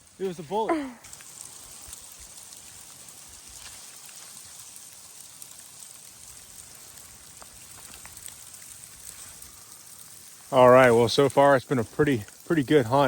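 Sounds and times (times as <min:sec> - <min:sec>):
wind-blown snow pattering: 0:00.0 - 0:13.0.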